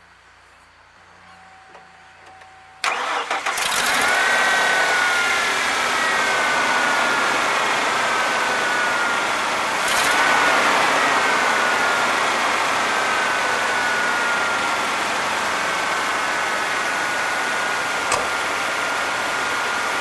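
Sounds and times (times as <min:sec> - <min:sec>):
high engine whine: 0:01.7 - 0:20.0
pickup engine cranking and idling: 0:01.7 - 0:20.0.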